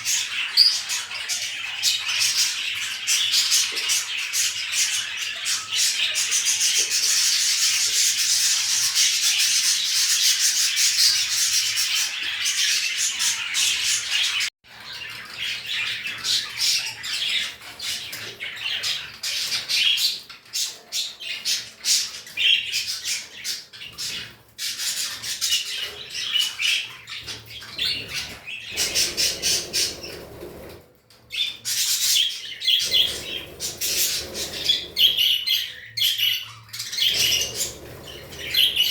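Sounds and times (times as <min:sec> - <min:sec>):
cage birds chirping and squawking: 0:00.0 - 0:38.9.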